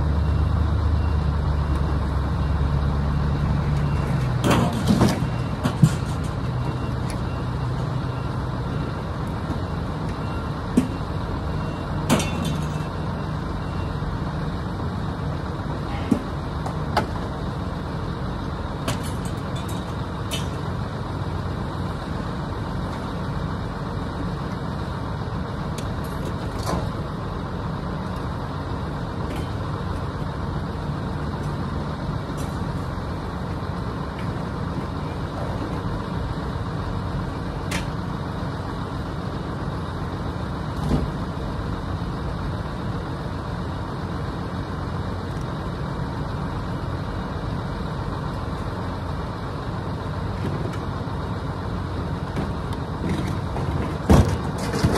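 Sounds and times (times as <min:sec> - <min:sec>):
vehicle road noise: 0:00.0 - 0:54.9.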